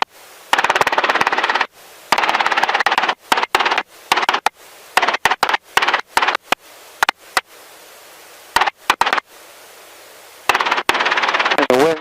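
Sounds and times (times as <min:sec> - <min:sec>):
steady intercom hiss: 0:00.0 - 0:12.0.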